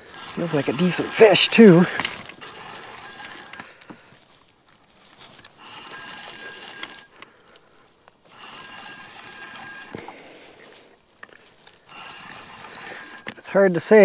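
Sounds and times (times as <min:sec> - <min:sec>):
fishing reel whirring and clicking: 0:00.0 - 0:14.0.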